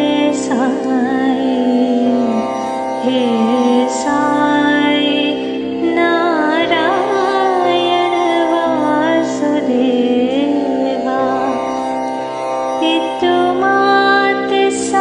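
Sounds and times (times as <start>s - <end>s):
woman singing ornamented melody: 0.0s - 15.0s.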